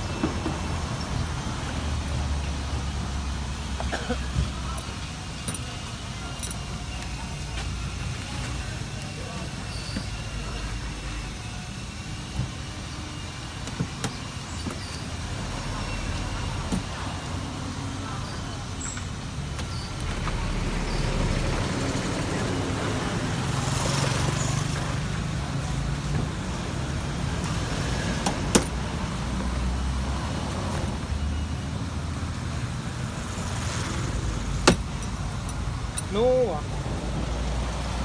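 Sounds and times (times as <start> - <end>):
street traffic rumble: 0.0 - 38.0.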